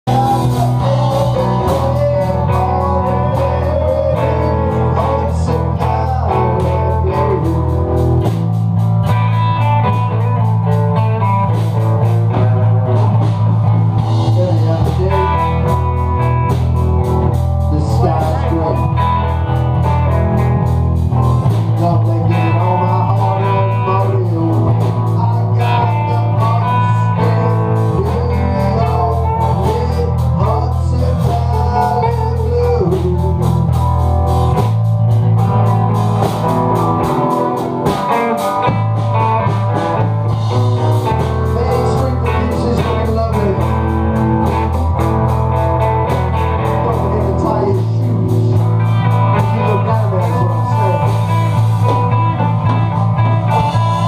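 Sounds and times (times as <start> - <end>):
blues guitar playing: 0.0 - 54.0
boomy bass line: 0.0 - 54.0.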